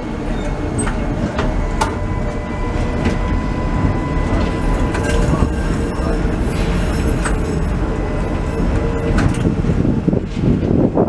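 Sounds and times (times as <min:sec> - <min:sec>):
tram rumbling: 0:00.0 - 0:11.0
wheels clicking over track: 0:00.2 - 0:10.9.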